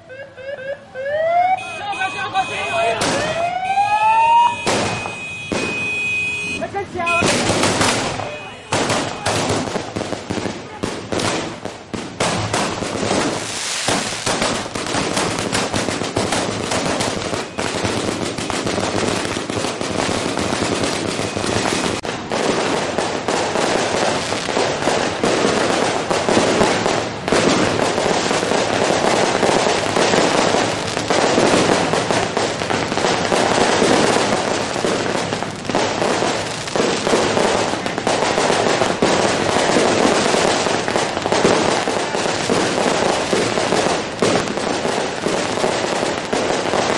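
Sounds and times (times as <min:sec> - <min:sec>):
firecracker strings crackling: 0:01.6 - 0:46.9.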